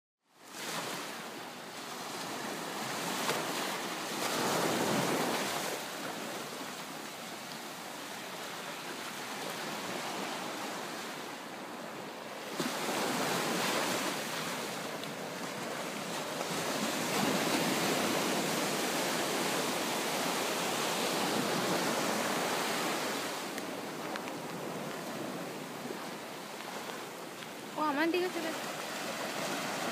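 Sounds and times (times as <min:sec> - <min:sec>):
surf breaking on shore: 0:01.9 - 0:11.8, 0:12.4 - 0:29.9.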